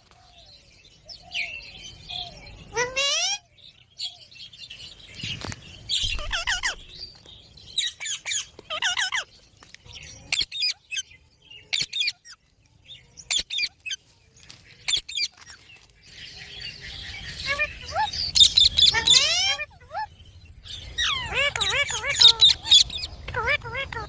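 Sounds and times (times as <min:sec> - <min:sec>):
parrots squawking and chirping: 0:01.8 - 0:04.2, 0:05.1 - 0:12.4, 0:13.2 - 0:14.0, 0:14.8 - 0:24.0.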